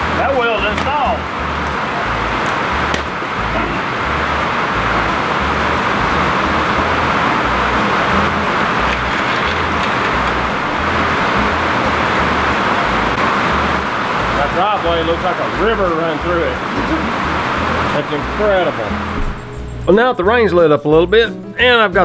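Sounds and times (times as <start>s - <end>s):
heavy rain pouring: 0.0s - 19.5s.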